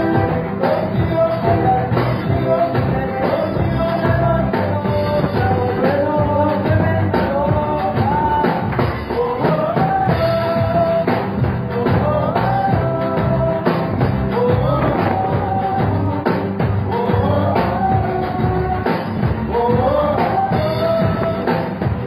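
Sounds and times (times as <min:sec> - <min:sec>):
song with band and drum beat: 0:00.0 - 0:22.0.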